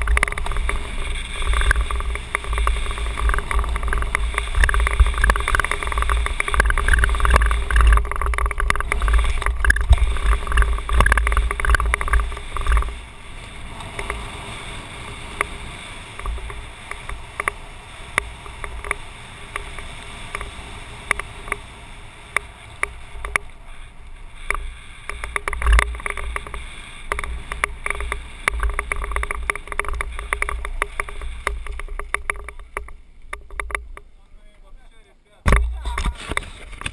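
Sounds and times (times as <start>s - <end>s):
bike rattling and ticking: 0.0s - 36.9s
bike tyres crunching on gravel: 0.0s - 36.9s.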